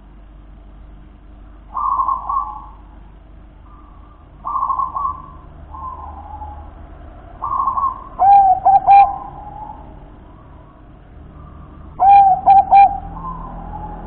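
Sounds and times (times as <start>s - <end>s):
dove cooing: 1.7s - 3.0s, 3.6s - 14.0s.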